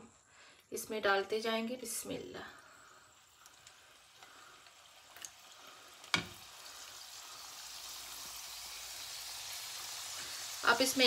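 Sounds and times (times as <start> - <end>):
dough sizzling in hot oil: 1.8 - 11.0.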